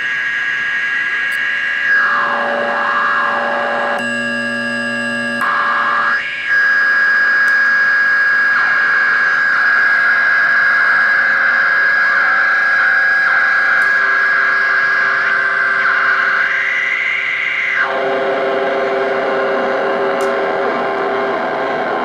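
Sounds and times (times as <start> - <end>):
electronic buzzing drone: 0.0 - 22.0.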